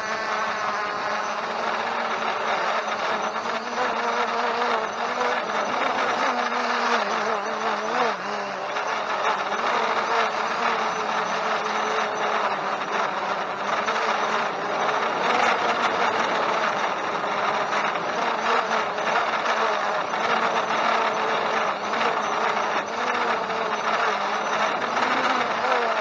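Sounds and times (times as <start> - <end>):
drone propellers whirring: 0.0 - 26.0.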